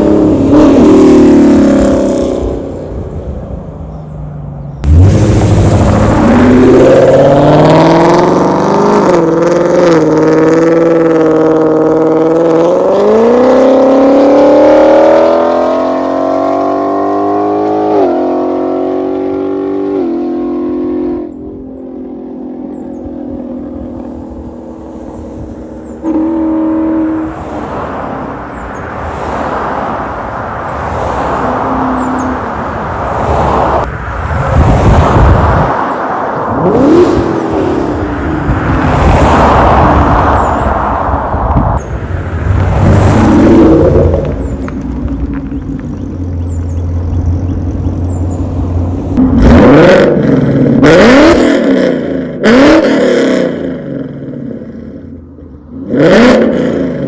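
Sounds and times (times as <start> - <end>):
car engine accelerating hard: 4.8 - 21.3, 22.3 - 55.1.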